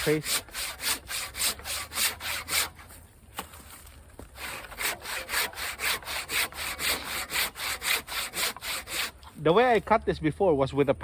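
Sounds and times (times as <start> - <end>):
hand saw cutting wood: 0.0 - 9.5.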